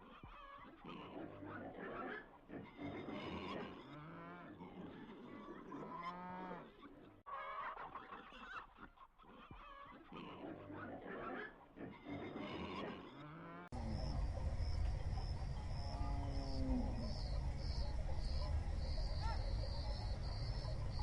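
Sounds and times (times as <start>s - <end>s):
herd animals calling: 0.2s - 7.8s, 9.5s - 21.0s.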